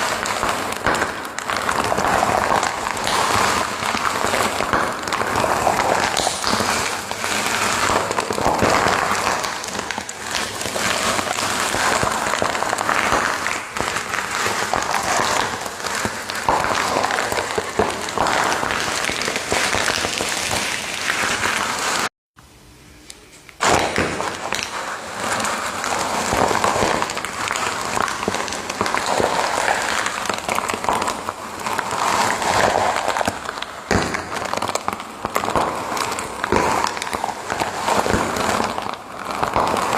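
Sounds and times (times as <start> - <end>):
fire crackling and popping: 0.0 - 22.1, 23.1 - 39.9.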